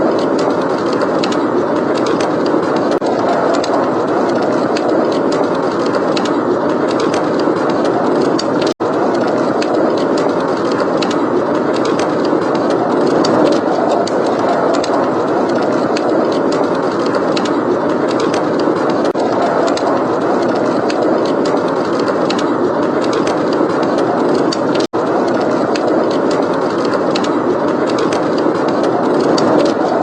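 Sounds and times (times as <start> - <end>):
fireplace crackling: 0.0 - 30.0
rushing blizzard wind: 0.0 - 30.0.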